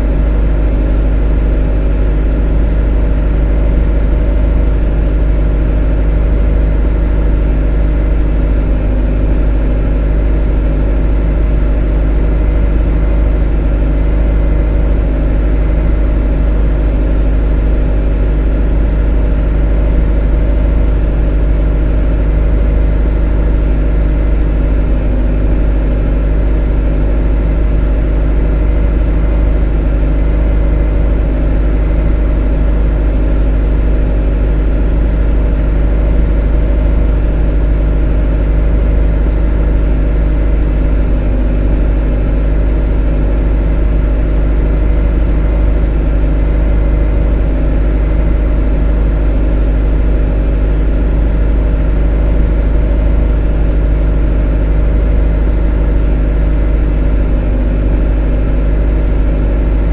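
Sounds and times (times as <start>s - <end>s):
motor droning steadily: 0.0s - 59.9s.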